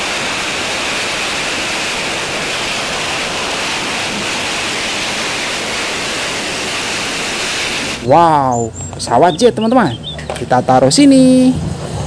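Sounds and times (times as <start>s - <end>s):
hovering jet engine rush: 0.0s - 12.0s.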